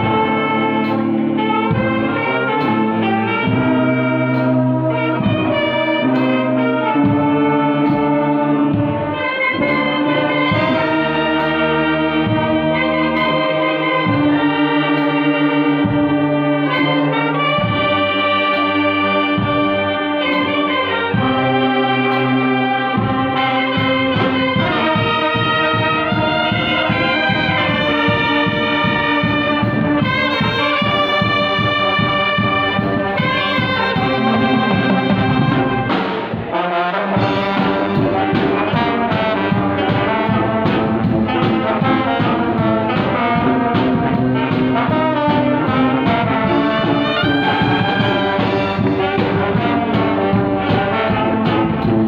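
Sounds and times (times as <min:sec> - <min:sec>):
brass band playing: 0:00.0 - 0:52.0.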